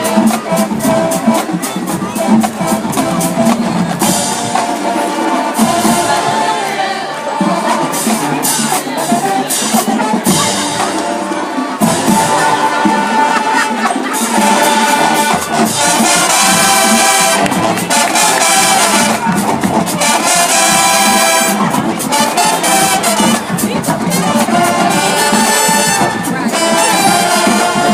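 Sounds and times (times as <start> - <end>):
marching band playing: 0.0 - 27.9.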